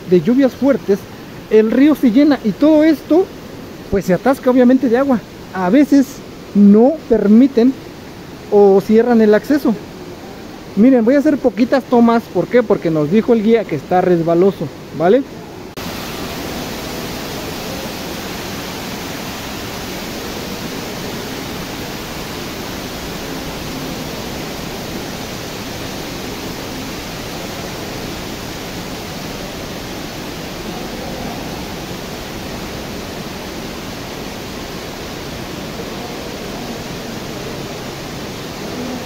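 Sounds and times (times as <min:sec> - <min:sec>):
rushing underground river water: 0:00.0 - 0:39.0.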